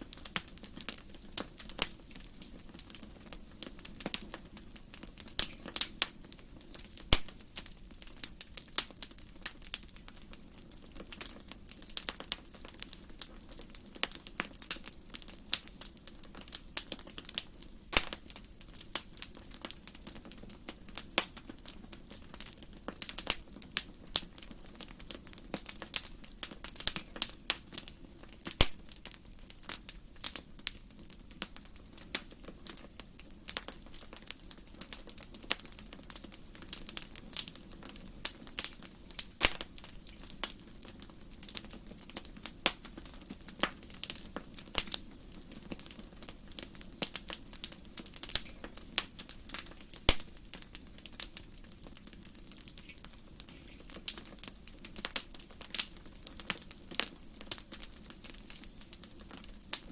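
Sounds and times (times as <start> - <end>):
fire pops: 0.0 - 59.9
wood fire crackling: 0.0 - 59.9.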